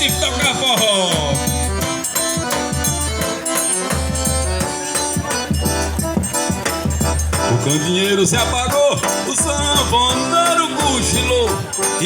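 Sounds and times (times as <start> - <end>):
accordion melody: 0.0 - 12.0
rhythmic shaker percussion: 0.0 - 12.0.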